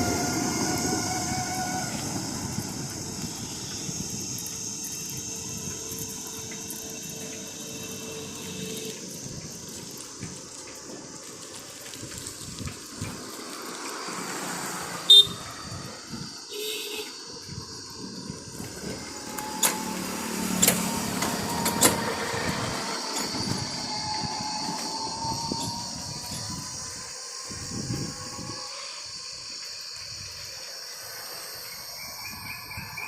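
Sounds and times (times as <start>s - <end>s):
rushing wind: 0.0s - 33.0s
traffic noise: 0.0s - 33.0s.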